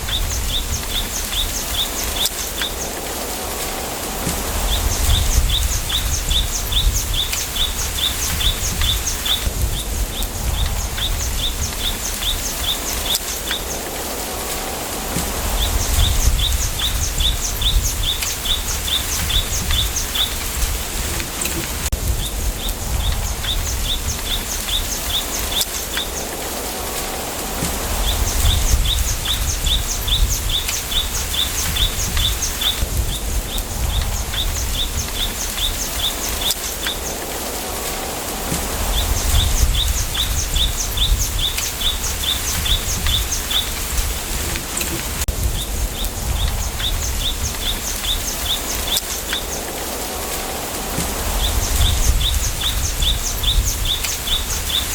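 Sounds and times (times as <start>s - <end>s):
wind rumble on microphone: 0.0s - 54.9s
wind rustling bamboo: 0.0s - 54.9s.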